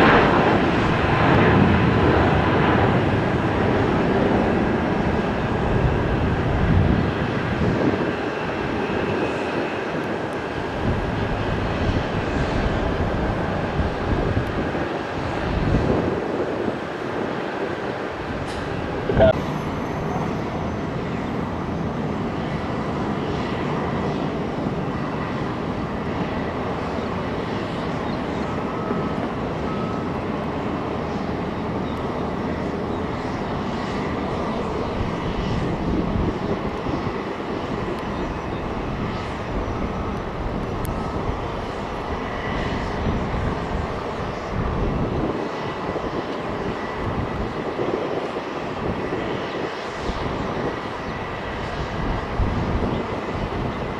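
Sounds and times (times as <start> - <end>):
jet airliner engines running: 0.0 - 53.9.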